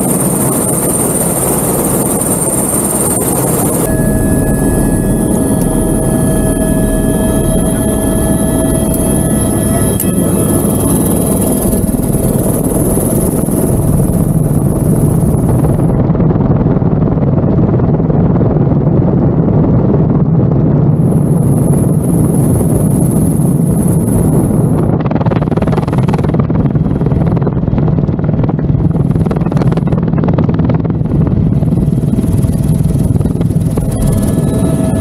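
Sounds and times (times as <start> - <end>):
helicopter rotor drone: 0.0 - 35.0
high turbine whine: 0.0 - 35.0.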